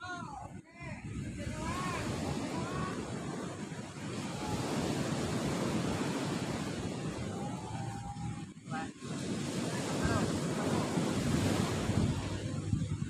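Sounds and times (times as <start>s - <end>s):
ocean waves breaking: 0.9s - 13.0s.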